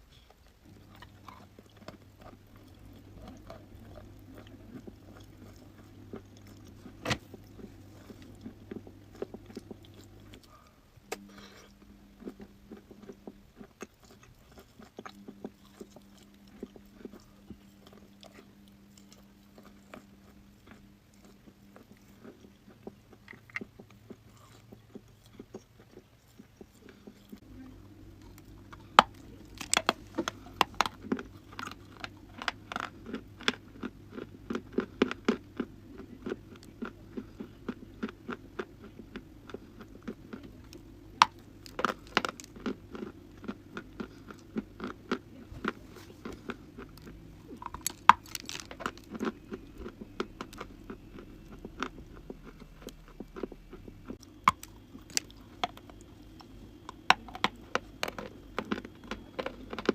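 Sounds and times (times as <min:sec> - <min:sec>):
chalk crunching being chewed: 0:00.1 - 0:59.9.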